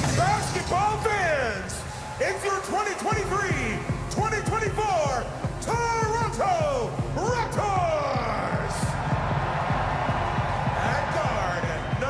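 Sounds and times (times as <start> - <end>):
arena music with heavy bass beat: 0.0 - 12.0
crowd noise: 0.0 - 12.0.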